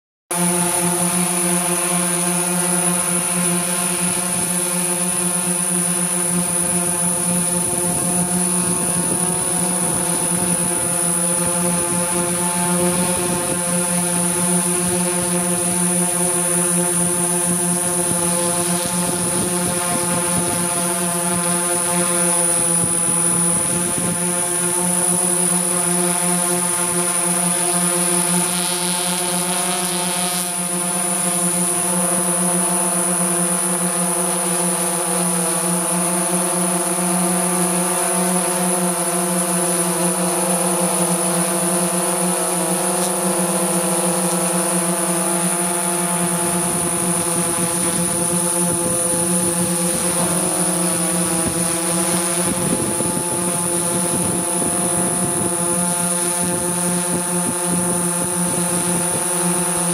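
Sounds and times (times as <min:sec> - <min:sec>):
drone propellers buzzing: 0:00.3 - 0:59.9
thin high whine: 0:00.4 - 0:59.9.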